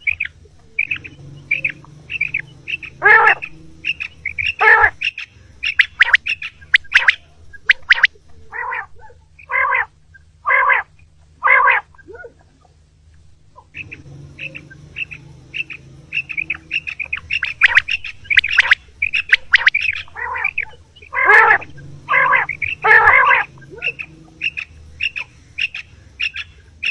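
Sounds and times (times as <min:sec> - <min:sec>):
low steady hum: 0:00.0 - 0:26.9
quail calling: 0:00.0 - 0:26.9.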